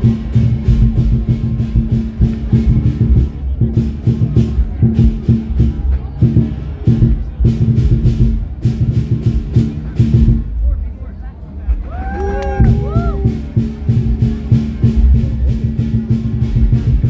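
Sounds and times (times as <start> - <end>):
music with percussive beat: 0.0 - 10.6, 12.3 - 17.0
rhythmic bass line: 0.0 - 10.9, 11.7 - 17.0.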